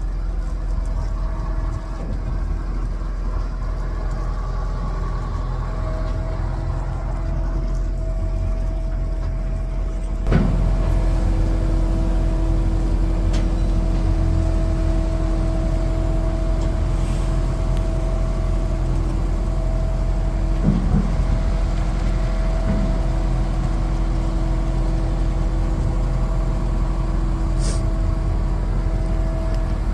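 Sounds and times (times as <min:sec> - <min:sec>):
diesel machinery rumbling: 0:00.0 - 0:29.9.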